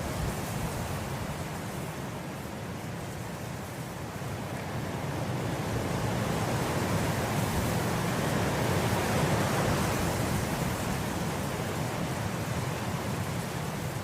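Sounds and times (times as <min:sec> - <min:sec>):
wind blowing through grass: 0:00.0 - 0:14.0.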